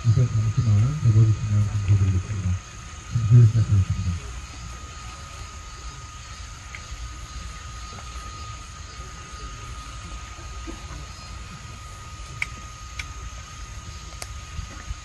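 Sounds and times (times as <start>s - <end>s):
high insect drone: 0.0s - 15.0s
low crowd rumble: 0.0s - 15.0s.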